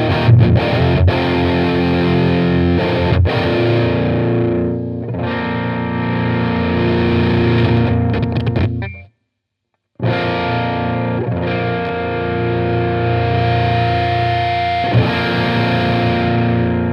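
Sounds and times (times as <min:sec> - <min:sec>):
distorted electric guitar chords: 0:00.0 - 0:09.1, 0:10.0 - 0:16.9.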